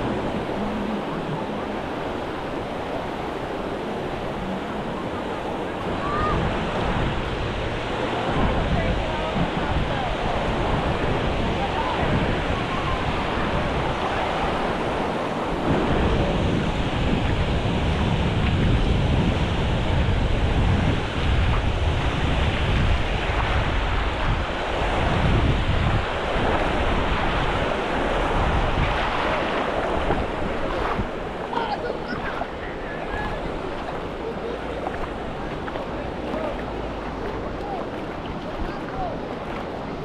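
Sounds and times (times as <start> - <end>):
ocean surf washing onto beach: 0.0 - 40.0
wind buffeting microphone: 0.0 - 40.0.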